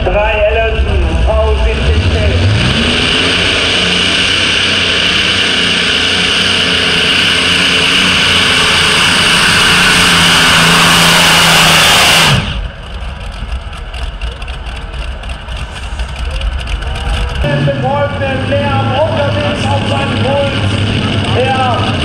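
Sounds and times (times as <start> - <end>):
tractor engines roaring: 0.0 - 22.0.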